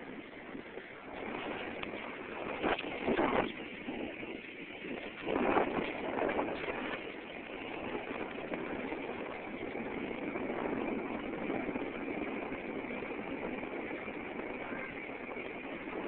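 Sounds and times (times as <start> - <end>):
rushing noise of bicycle riding: 0.0 - 16.0.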